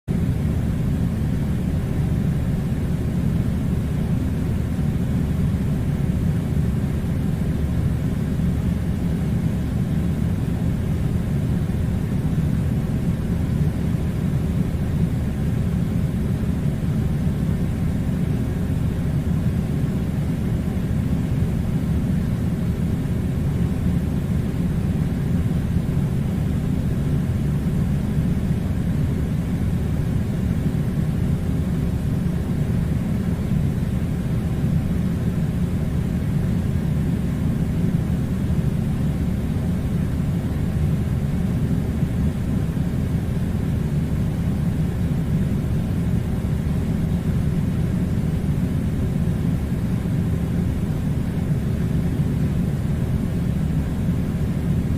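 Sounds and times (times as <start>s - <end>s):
air conditioner running: 0.1s - 54.9s.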